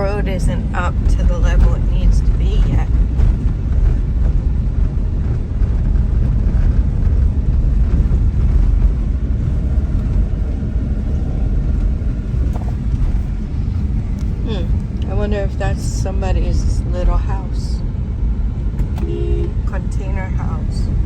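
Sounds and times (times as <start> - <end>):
car driving rumble inside cabin: 0.0 - 21.0
road noise on bumpy road: 0.0 - 21.0.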